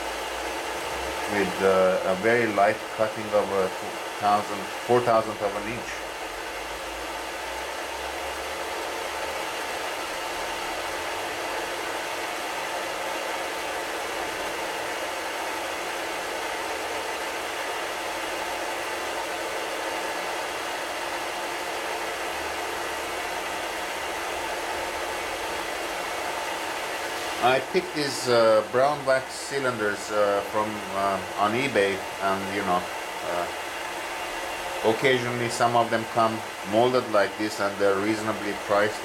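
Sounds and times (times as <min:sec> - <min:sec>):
lathe motor whirring: 0:00.0 - 0:39.0.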